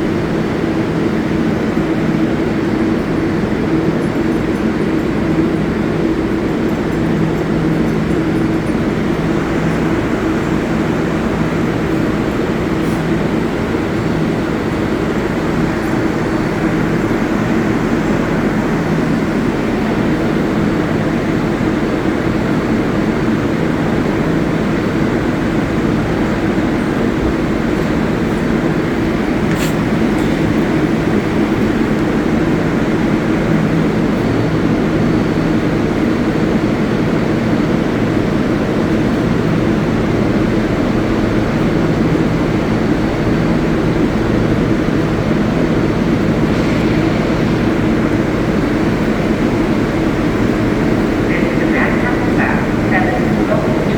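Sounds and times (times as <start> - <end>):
subway train humming: 0.0 - 53.9.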